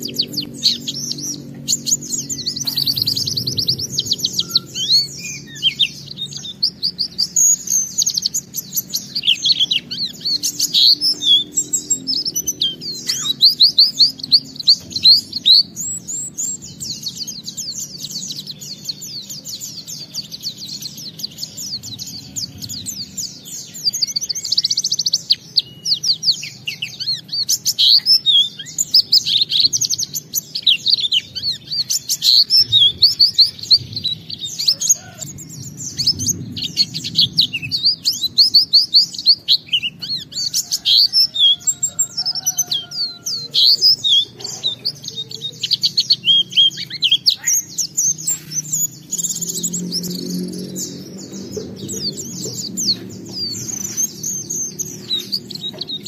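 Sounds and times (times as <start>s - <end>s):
bird singing high twitters: 0.0s - 56.0s.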